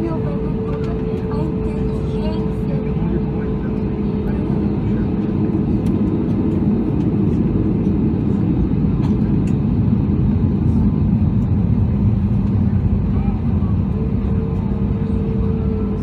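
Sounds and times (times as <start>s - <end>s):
constant low hum: 0.0s - 16.0s
jet engines rumbling: 0.0s - 16.0s.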